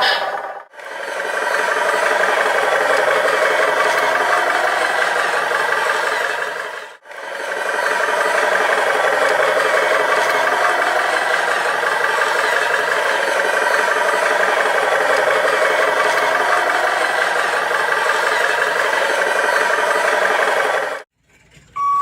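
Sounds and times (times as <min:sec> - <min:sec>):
toy vehicle motor rattle: 0:00.0 - 0:21.8.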